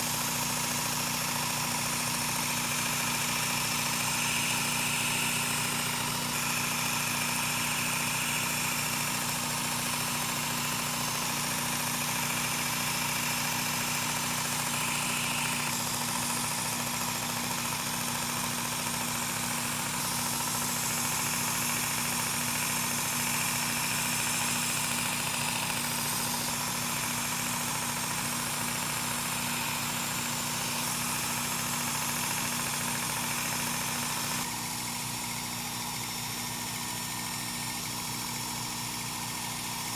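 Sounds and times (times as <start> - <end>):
electric sharpener motor humming: 0.0 - 39.9.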